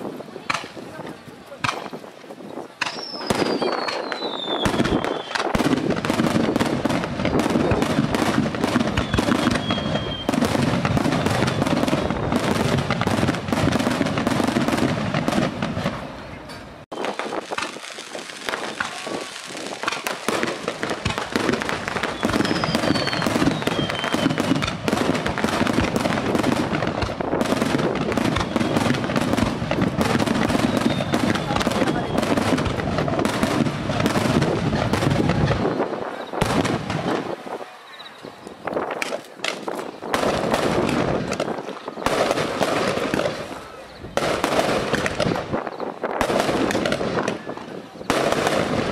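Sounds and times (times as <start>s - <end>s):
fireworks bangs and crackling: 0.0s - 48.9s
fireworks whistles falling: 1.7s - 16.0s, 16.9s - 48.9s.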